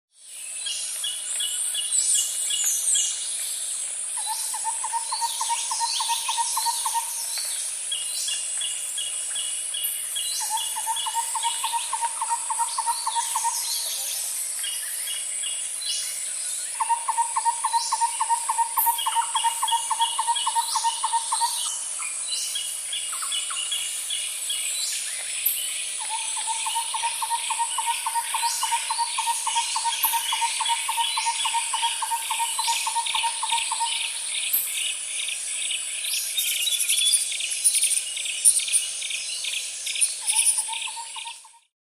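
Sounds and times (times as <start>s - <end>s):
high-pitched insect drone: 0.2s - 41.6s
bird chirps and trills: 4.2s - 41.7s.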